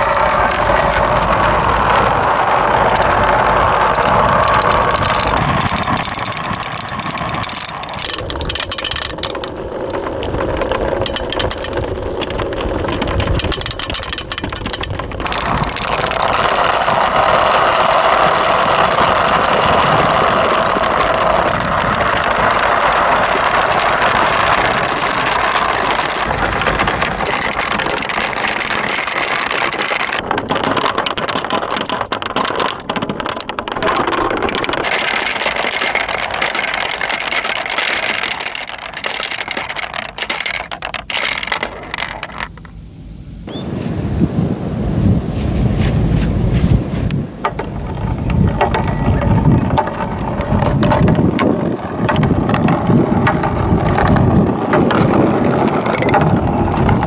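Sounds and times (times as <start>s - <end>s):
plastic balls rattling down gutters: 0.0s - 43.6s, 47.1s - 57.0s.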